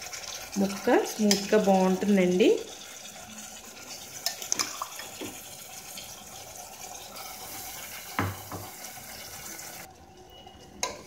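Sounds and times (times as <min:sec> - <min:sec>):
chicken sizzling in hot oil: 0:00.0 - 0:09.9.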